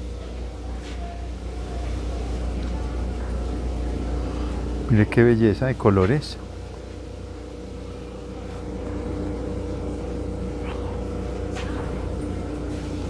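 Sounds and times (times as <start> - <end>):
low mechanical rumble and hum: 0.0 - 13.0.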